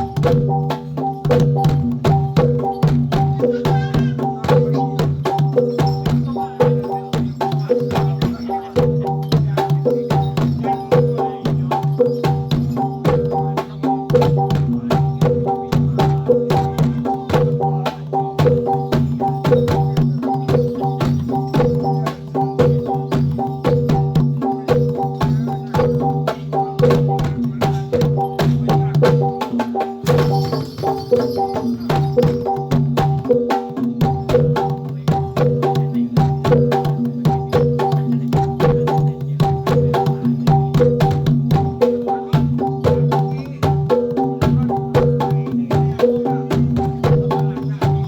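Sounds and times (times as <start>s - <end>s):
drum strokes: 0.0s - 48.0s
ringing metal gamelan notes: 0.0s - 48.0s.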